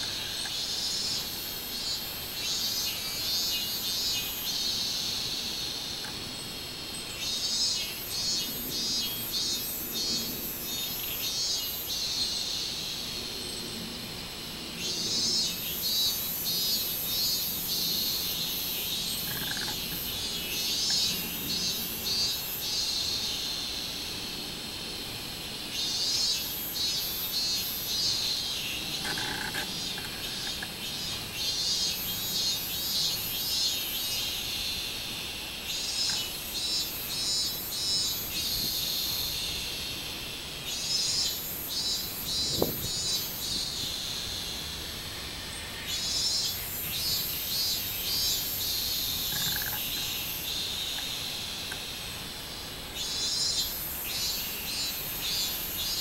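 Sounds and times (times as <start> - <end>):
cicada singing: 0.0 - 56.0.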